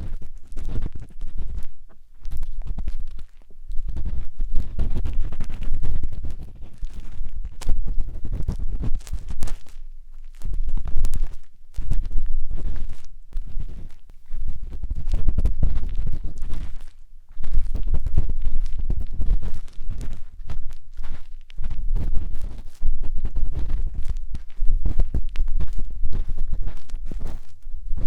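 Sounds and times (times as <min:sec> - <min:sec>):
matchstick scraping microphone: 0:00.0 - 0:28.0.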